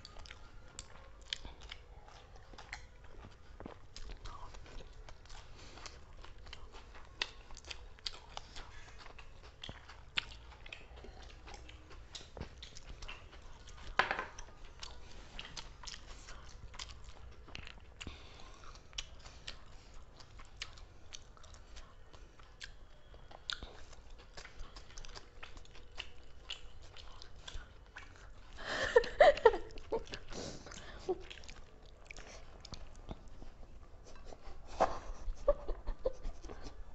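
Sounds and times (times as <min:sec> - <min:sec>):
people chewing food: 0:00.0 - 0:36.9.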